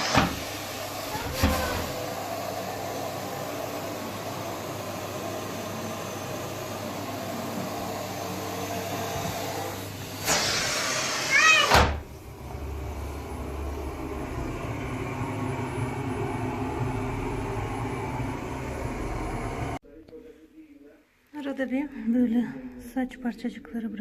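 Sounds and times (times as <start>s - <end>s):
vacuum cleaner running: 0.0s - 19.8s.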